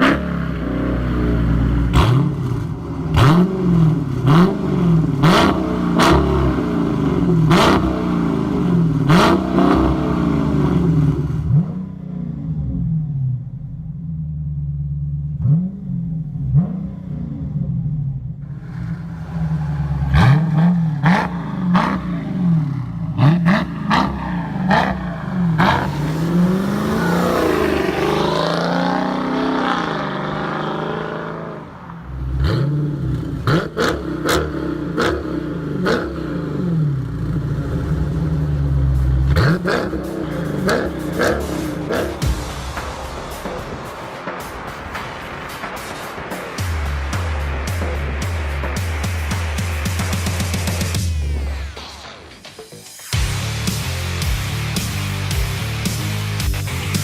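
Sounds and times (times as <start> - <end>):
engine revving: 0.0 - 13.5, 15.0 - 42.6, 44.9 - 52.2, 53.1 - 57.0.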